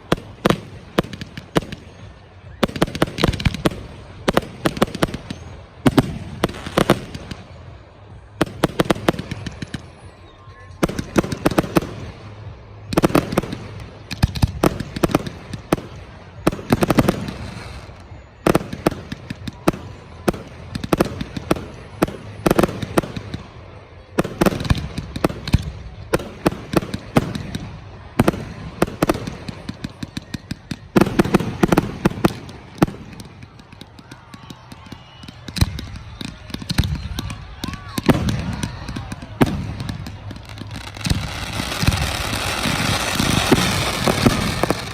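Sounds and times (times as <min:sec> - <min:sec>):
fireworks bursting with bangs: 0:00.0 - 0:44.9.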